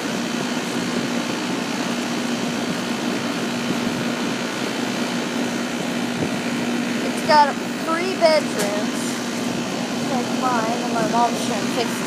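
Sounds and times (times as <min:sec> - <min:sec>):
air conditioner fan rushing air: 0:00.0 - 0:12.0
steady low hum: 0:00.0 - 0:12.0.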